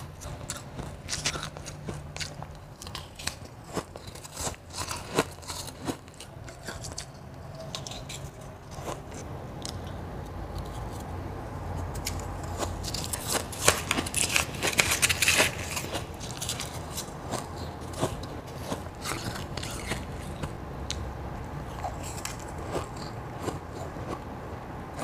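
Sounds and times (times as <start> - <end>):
chewing crushed ice: 0.0 - 9.9, 11.8 - 21.0, 21.7 - 24.3.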